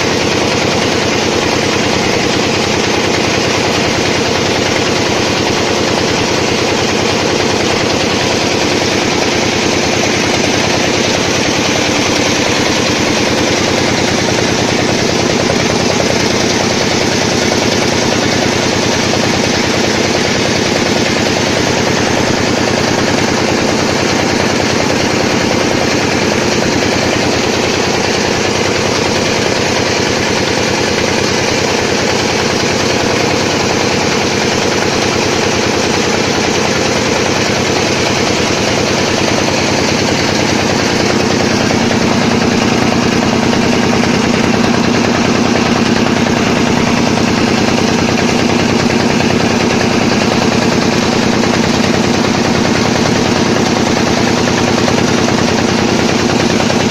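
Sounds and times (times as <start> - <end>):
small boat engine running: 0.0 - 56.9.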